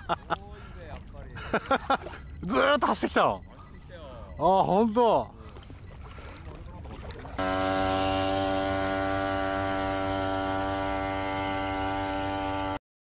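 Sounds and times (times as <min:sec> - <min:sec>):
small boat motor humming: 0:00.0 - 0:12.8.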